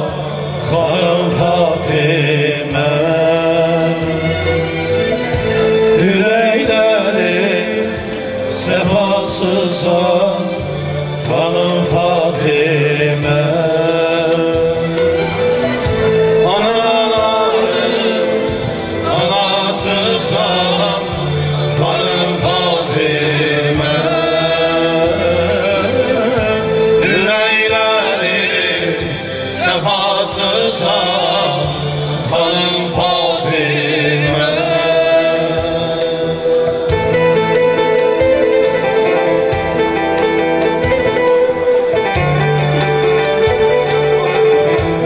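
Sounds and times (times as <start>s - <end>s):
men singing devotional song: 0.0s - 37.8s.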